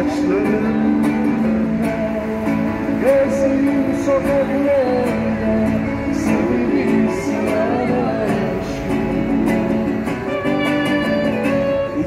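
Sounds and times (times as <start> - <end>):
acoustic guitar strumming: 0.0 - 12.0
person singing: 0.0 - 12.0.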